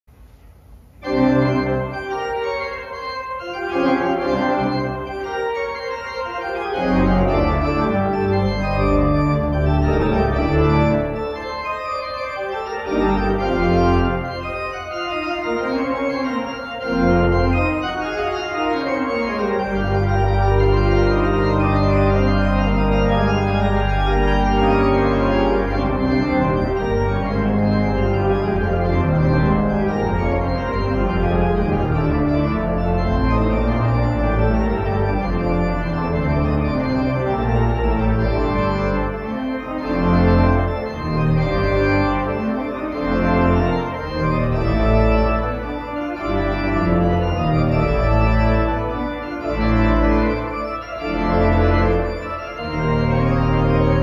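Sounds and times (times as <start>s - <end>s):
church organ chords: 0.3s - 54.0s
low organ pedal bass notes: 1.0s - 54.0s.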